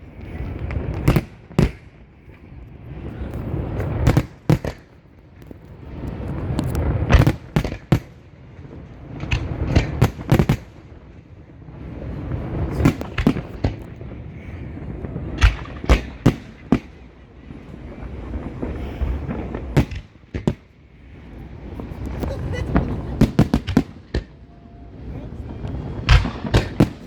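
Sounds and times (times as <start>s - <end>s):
fireworks bangs and cracks: 0.0s - 27.0s
low rumble of explosions: 0.0s - 27.0s.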